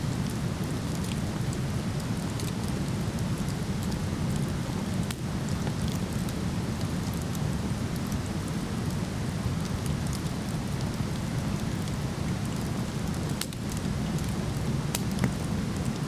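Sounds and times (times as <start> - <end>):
wood fire crackling and popping: 0.1 - 16.0.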